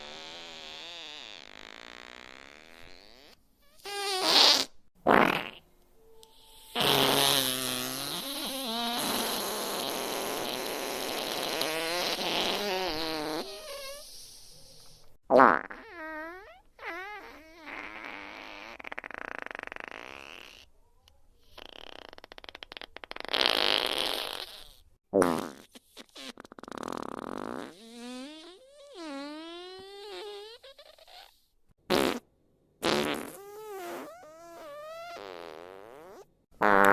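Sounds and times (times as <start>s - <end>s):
fart sound effects: 0.0s - 5.6s, 6.6s - 14.1s, 15.3s - 20.7s, 21.6s - 31.3s, 31.9s - 32.2s, 32.8s - 36.9s.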